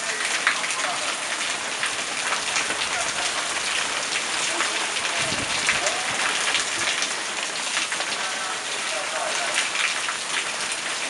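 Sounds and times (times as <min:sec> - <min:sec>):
heavy rain pouring into puddles: 0:00.0 - 0:11.0.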